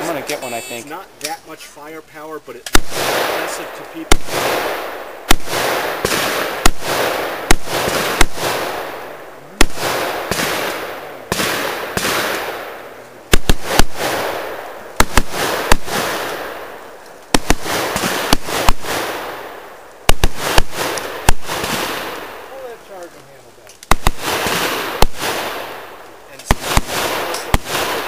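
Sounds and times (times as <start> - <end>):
rifle shots with echo: 0.0 - 0.8, 2.6 - 23.1, 23.8 - 28.0.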